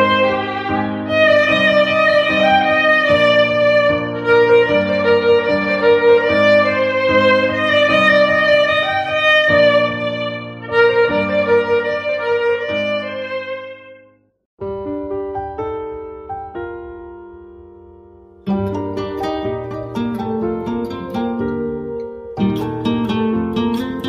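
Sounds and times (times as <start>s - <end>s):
violin melody: 0.0s - 14.2s, 18.5s - 24.0s.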